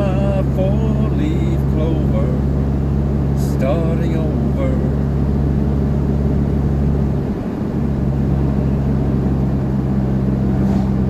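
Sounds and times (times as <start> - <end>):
engine and road noise drone: 0.0 - 11.0.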